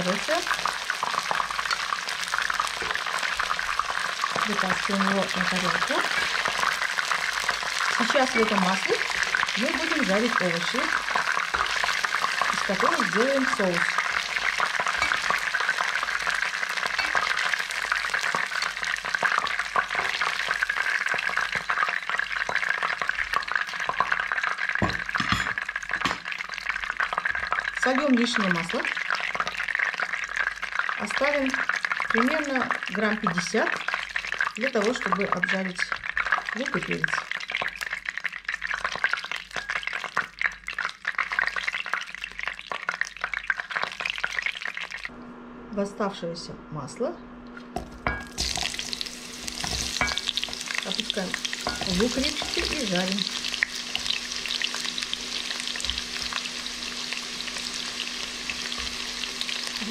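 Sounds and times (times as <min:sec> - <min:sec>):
oil sizzling and crackling in pan: 0:00.0 - 0:45.1, 0:47.5 - 0:59.9.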